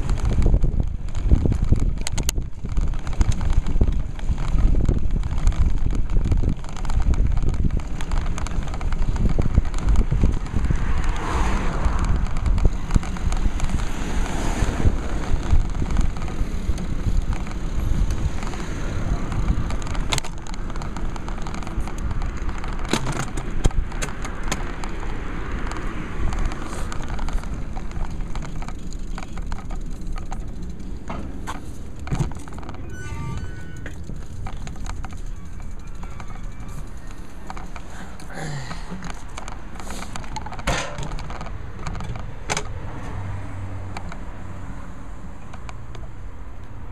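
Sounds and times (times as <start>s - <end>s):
wind buffeting microphone: 0.0s - 44.3s
bicycle clicks and rattles: 0.0s - 46.9s
road rumble: 0.0s - 46.9s.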